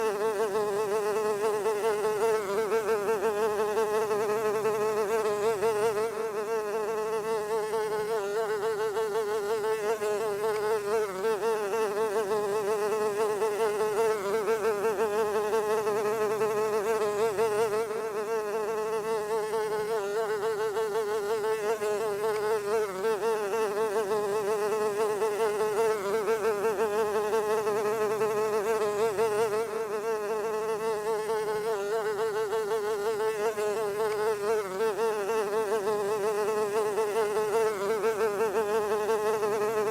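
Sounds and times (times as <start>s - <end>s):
fly buzzing: 0.0s - 39.9s.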